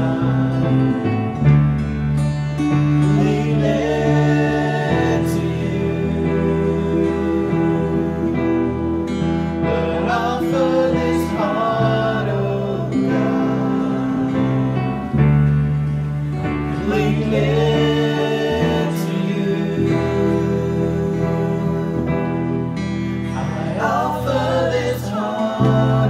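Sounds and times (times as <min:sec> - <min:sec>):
guitar chords: 0:00.0 - 0:26.0
worship band instrumental music: 0:00.0 - 0:26.0.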